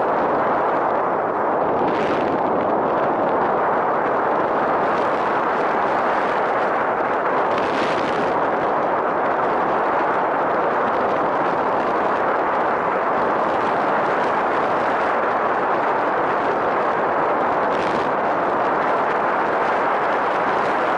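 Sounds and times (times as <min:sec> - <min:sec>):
wind noise on microphone: 0:00.0 - 0:20.9.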